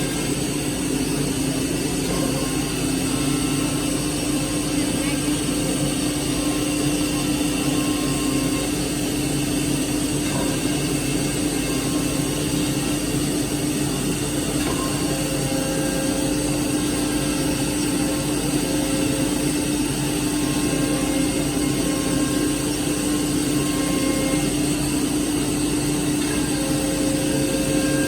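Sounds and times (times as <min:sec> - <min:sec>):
machine humming and hissing: 0:00.0 - 0:28.0.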